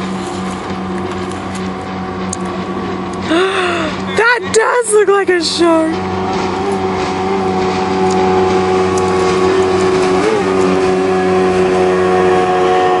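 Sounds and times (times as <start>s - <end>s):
loud motor drone: 0.0s - 13.0s.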